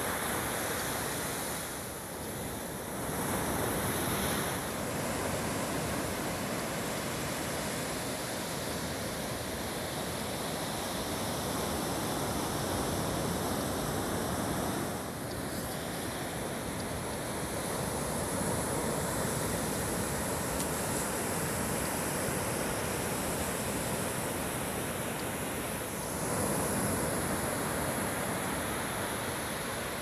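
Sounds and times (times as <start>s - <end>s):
surf washing on a beach: 0.0s - 30.0s
wind: 0.0s - 30.0s.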